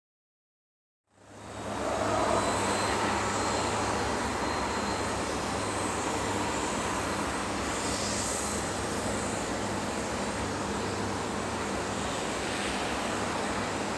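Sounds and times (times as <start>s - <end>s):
airliner engines running: 1.1s - 13.9s
faint high whine: 1.1s - 13.9s.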